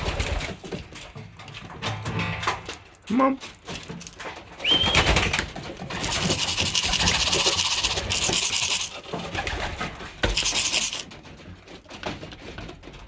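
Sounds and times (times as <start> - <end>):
feed rattling in a container: 0.0 - 13.0.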